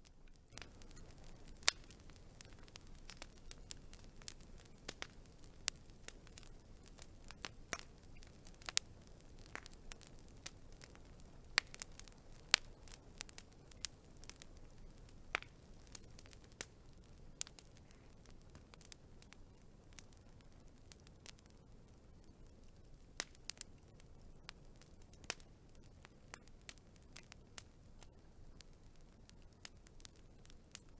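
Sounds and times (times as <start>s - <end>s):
faint low hiss: 0.0s - 30.9s
wood fire crackling: 0.0s - 30.9s.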